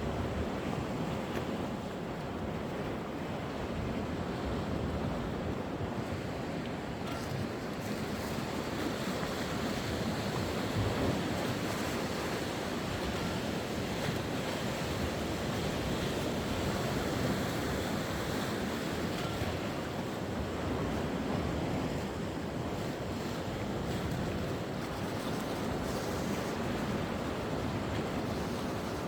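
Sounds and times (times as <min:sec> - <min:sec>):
sea waves washing onto shore: 0:00.2 - 0:29.0.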